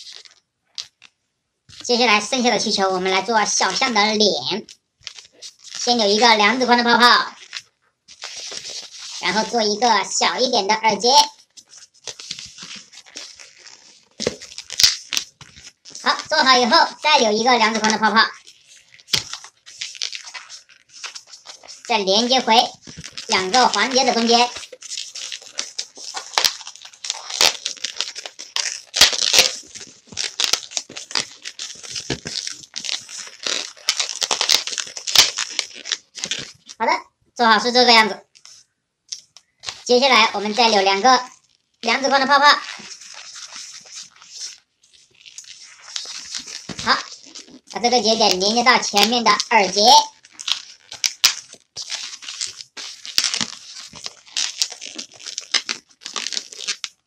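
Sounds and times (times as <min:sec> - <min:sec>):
balloon rubber squeaking and crinkling: 0:00.0 - 0:01.1, 0:01.7 - 0:57.0.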